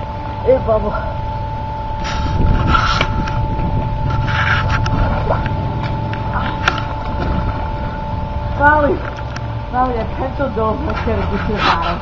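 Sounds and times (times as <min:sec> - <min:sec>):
faint hum: 0:00.0 - 0:12.0
low rumble: 0:00.0 - 0:12.0.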